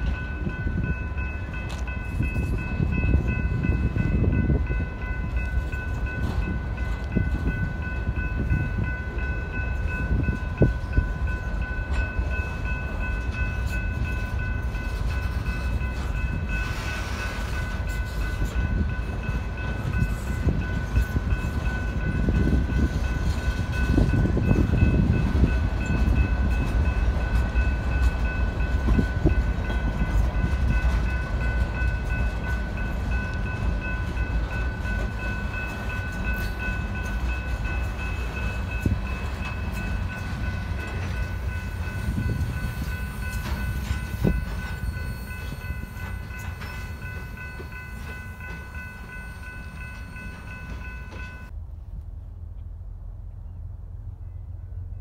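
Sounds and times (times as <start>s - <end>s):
train cars clanking: 0.0s - 51.5s
crossing signal bell ringing: 0.0s - 51.6s
train wheels rumbling on rail: 0.0s - 55.0s.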